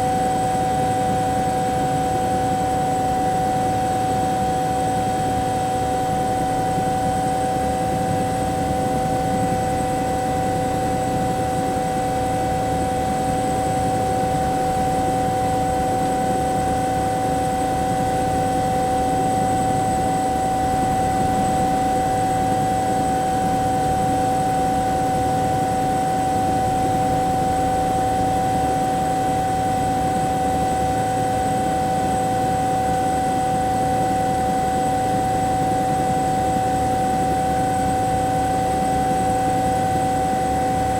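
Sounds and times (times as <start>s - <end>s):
helicopter engine whine: 0.0s - 40.9s
helicopter rotor beat: 0.0s - 40.9s.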